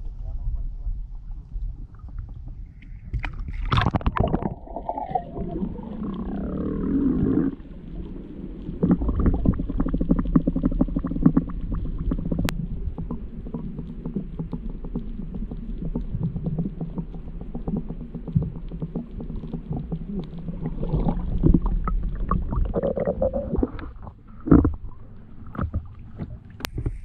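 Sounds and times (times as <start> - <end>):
muffled underwater rumble: 0.0 - 27.0
fast crackling clicks: 1.9 - 26.8
water splashing: 2.7 - 27.0.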